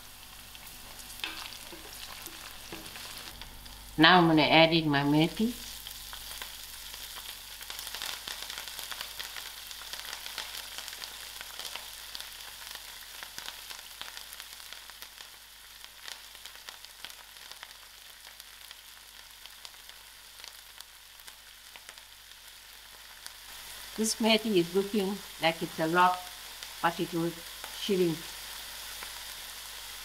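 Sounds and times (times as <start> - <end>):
leaves frying in hot oil: 0.0 - 30.0.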